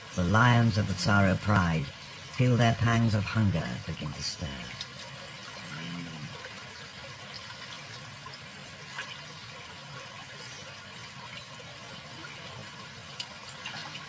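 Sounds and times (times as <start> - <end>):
water sloshing and splashing: 1.7 - 14.0.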